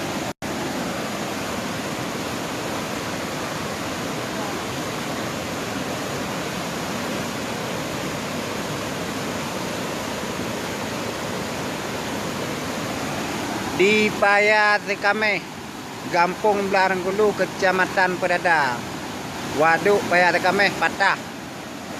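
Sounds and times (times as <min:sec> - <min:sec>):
floodwater rushing: 0:00.0 - 0:21.9.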